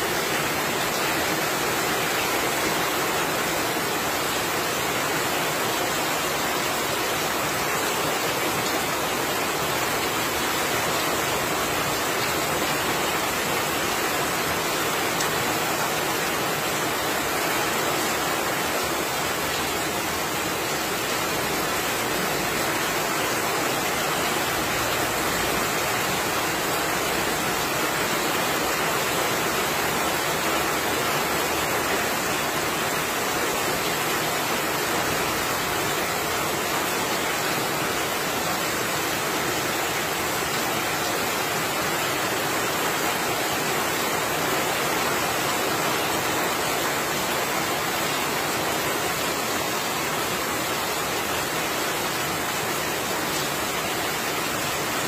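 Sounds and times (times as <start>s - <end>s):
heavy rain on roofs and pavement: 0.0s - 55.0s.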